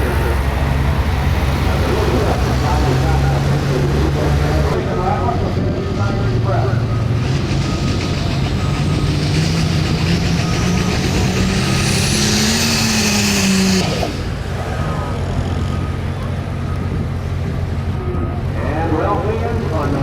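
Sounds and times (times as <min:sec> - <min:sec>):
diesel tractor engine under load: 0:00.0 - 0:20.0
high turbo whine: 0:00.0 - 0:20.0.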